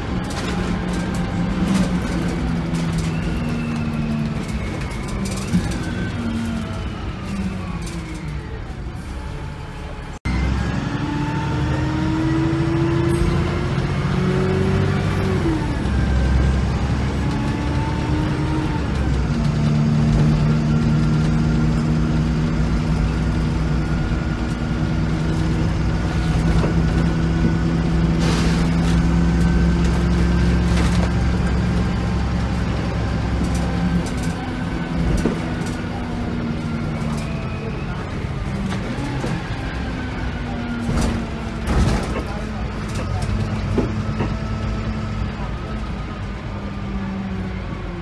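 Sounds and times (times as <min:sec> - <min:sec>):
bus diesel engine: 0:00.0 - 0:48.0.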